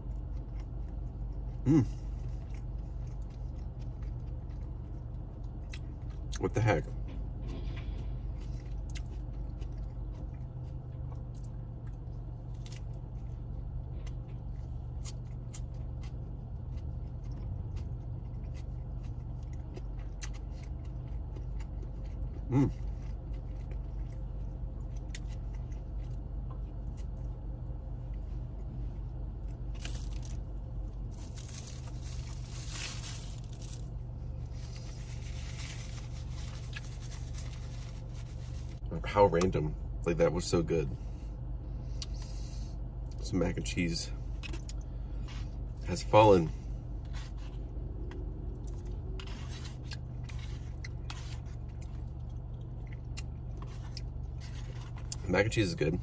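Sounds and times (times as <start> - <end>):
chewing and mouth sounds: 0.0 - 38.9, 44.2 - 55.4
steady low hum: 0.0 - 56.0.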